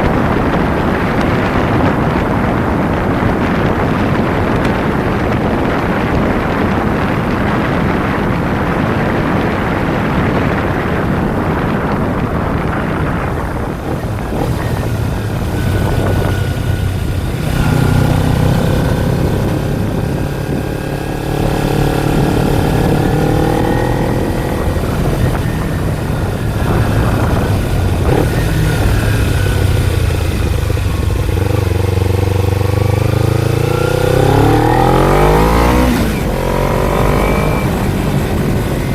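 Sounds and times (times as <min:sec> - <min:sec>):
motorcycle engine droning: 0:00.0 - 0:38.9
wind rushing over microphone: 0:00.0 - 0:38.9.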